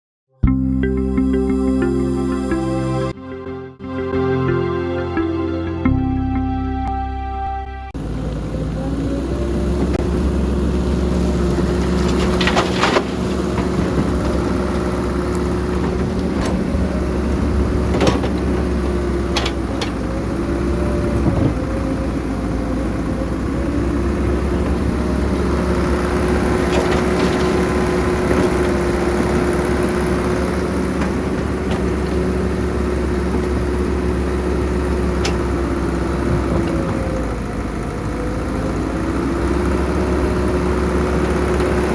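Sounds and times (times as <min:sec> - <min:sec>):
diesel construction machinery running: 0:08.0 - 0:41.9.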